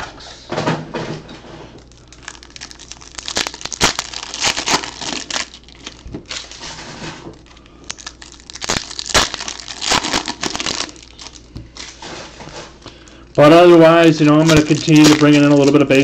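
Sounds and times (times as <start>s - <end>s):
foil packs crinkling and tearing: 1.9s - 12.2s, 12.8s - 16.0s.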